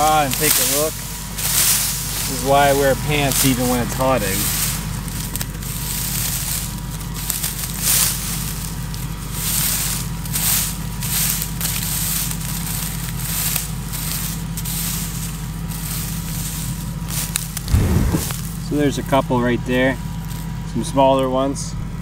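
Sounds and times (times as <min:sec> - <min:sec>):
steady low hum: 0:00.0 - 0:18.9
dry straw rustling and crackling: 0:00.0 - 0:21.5.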